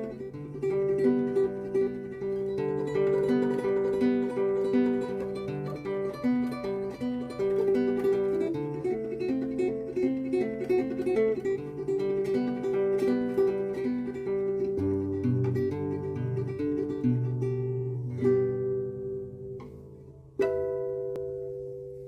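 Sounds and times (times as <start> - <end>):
plucked acoustic guitar melody: 0.0 - 22.0.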